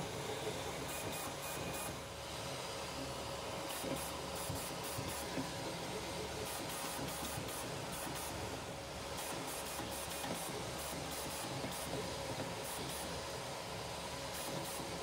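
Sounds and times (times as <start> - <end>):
fan hiss and hum: 0.0 - 15.0.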